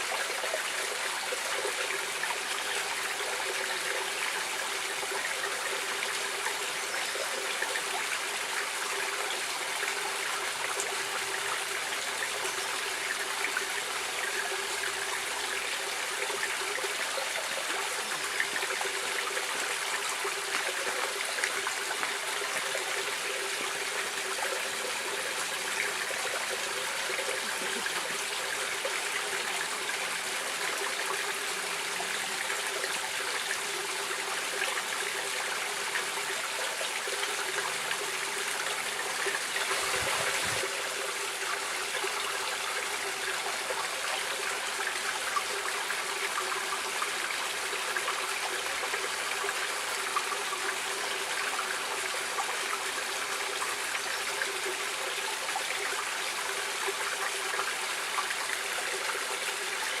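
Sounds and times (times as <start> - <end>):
stream trickling and gurgling: 0.0 - 60.0.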